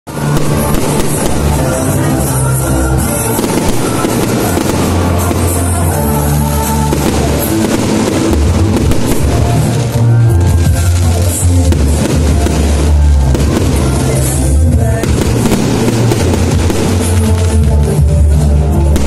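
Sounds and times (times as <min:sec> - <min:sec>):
fireworks crackling and popping: 0:00.1 - 0:19.0
loud music with steady bass: 0:00.1 - 0:19.0.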